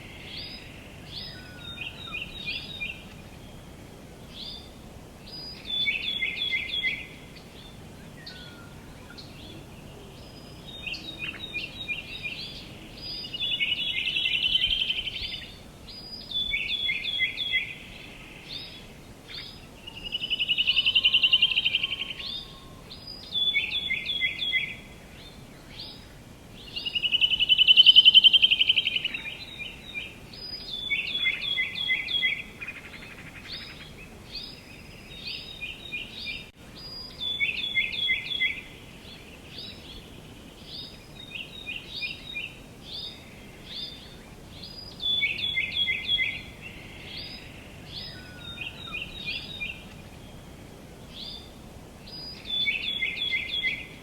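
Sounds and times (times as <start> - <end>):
faint outdoor hiss: 0.0 - 54.0
songbirds singing: 0.0 - 54.0.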